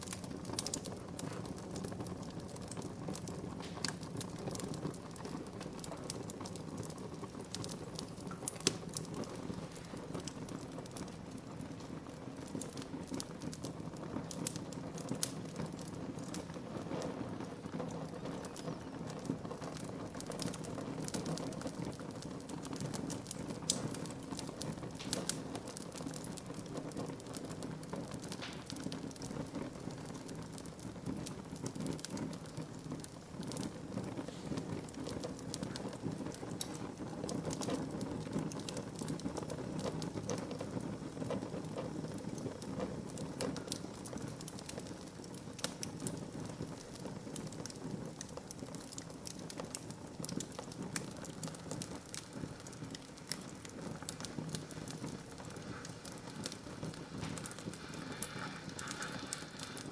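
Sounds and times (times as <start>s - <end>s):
burning wood crackling and popping: 0.0s - 59.9s
fire flames rumbling: 0.0s - 59.9s.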